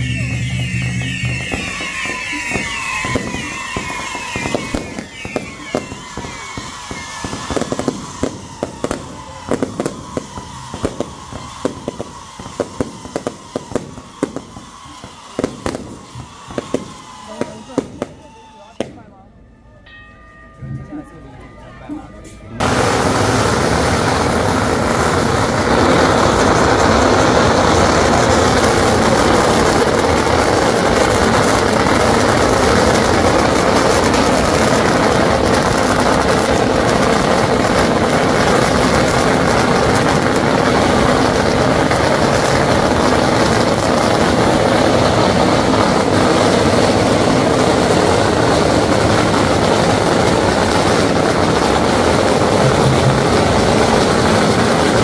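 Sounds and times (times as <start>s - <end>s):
firecrackers crackling: 0.0s - 19.2s, 22.6s - 55.0s.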